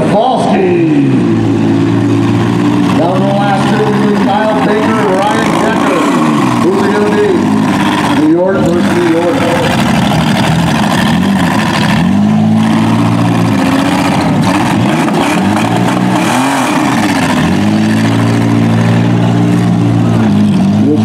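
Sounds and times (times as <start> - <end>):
engines revving hard: 0.0 - 21.0.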